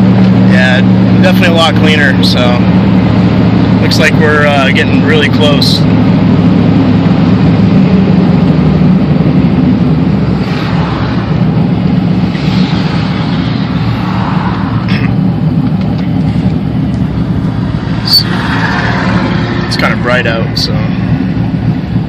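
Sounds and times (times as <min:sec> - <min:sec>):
car engine droning while driving: 0:00.0 - 0:22.0.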